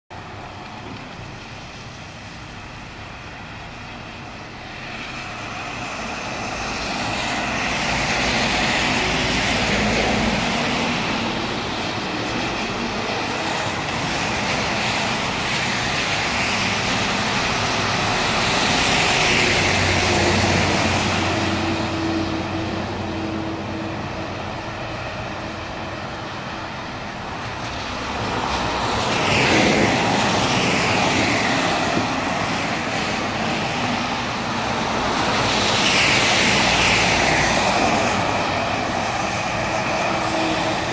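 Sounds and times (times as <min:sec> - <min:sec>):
tyres hissing through water: 0:00.2 - 0:40.9.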